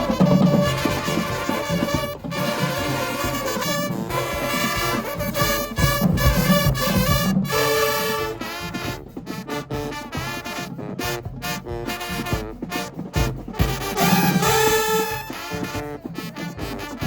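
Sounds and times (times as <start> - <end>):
marching band brass: 0.0 - 17.0
marching band drums: 0.0 - 17.0.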